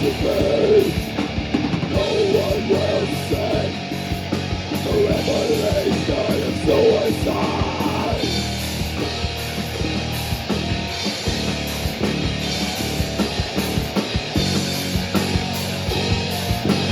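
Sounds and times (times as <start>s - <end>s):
live heavy rock band: 0.0s - 16.9s.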